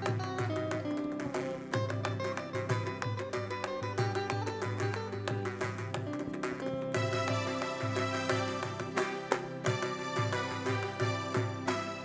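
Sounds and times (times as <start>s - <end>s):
electric guitar: 0.0s - 12.0s
hand-drum strikes: 0.0s - 12.0s
keyboard: 0.0s - 12.0s.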